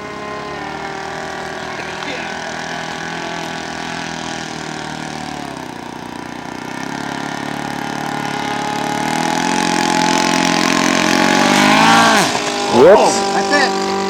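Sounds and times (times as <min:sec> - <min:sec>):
model plane engine running: 0:00.0 - 0:14.0.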